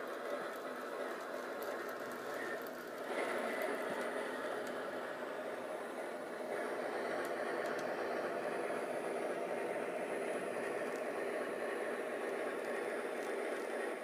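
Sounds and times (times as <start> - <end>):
model train engine running: 0.0 - 14.0.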